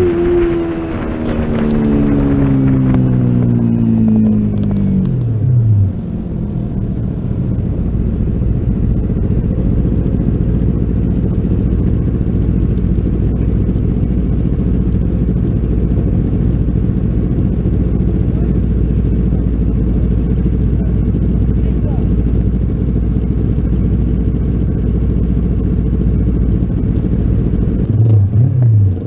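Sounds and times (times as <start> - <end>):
motorcycle engine idling: 0.0 - 29.0
other motorcycles idling: 0.1 - 29.0.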